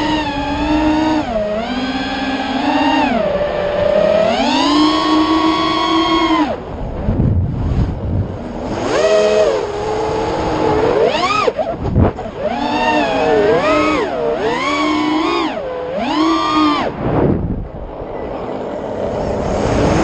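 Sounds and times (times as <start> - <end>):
quadcopter motors whining: 0.0 - 7.2, 8.3 - 20.0.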